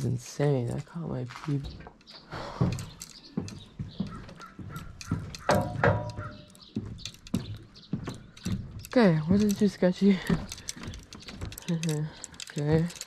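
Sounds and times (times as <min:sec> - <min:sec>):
footsteps on wooden dock: 0:00.4 - 0:13.0
bird calling: 0:02.0 - 0:12.6
fishing gear knocking: 0:02.0 - 0:13.0.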